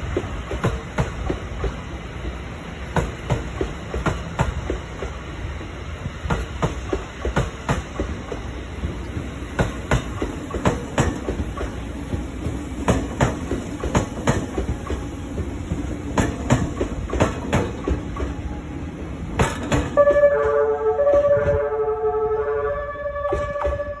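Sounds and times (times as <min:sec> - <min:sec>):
train wheels clicking over rail joints: 0:00.0 - 0:21.8, 0:23.1 - 0:24.0.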